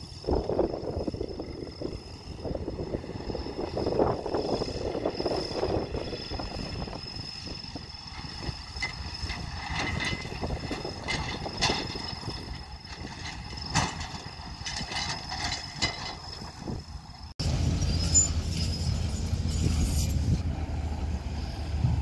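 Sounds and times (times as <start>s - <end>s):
excavator diesel engine rumble: 0.0s - 22.0s.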